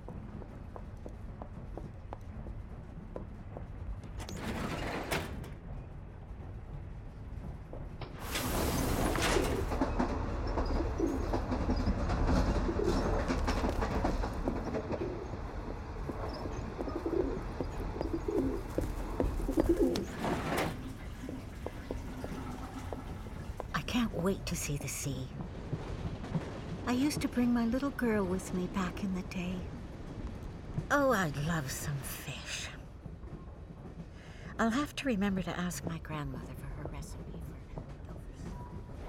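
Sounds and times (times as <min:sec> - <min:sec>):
train carriage rumble: 0:00.0 - 0:39.0.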